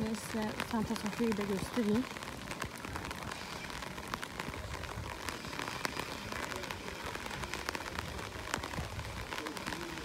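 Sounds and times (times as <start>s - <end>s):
raindrop ticks near microphone: 0.0s - 10.0s
steady rain: 0.0s - 10.0s.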